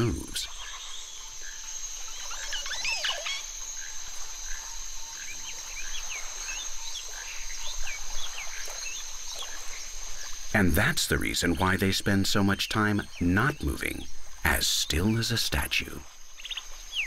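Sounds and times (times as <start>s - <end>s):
frog or bird chirps: 0.0s - 17.0s
high-pitched insect drone: 0.0s - 17.0s.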